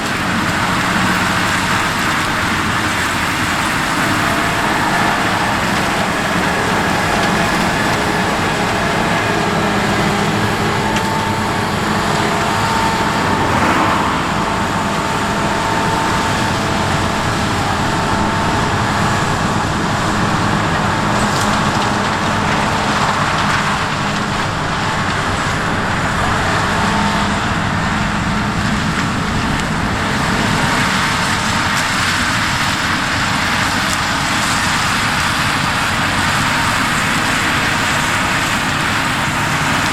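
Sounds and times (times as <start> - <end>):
farm machinery engine drone: 0.0 - 39.9.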